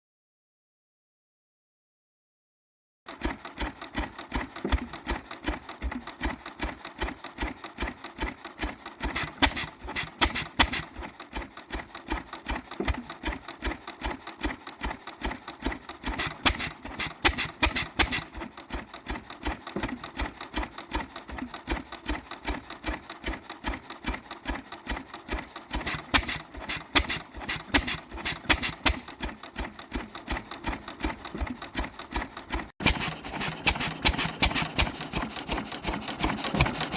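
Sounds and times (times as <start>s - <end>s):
stationary engine running: 3.1s - 36.9s.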